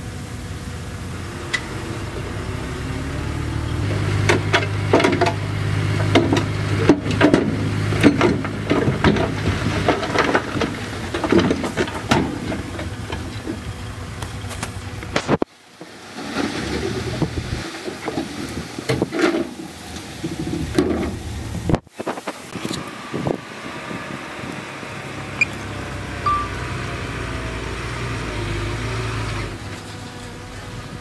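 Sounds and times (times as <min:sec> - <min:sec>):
bulldozer diesel engine: 0:00.0 - 0:15.4, 0:16.2 - 0:21.7, 0:22.6 - 0:31.0.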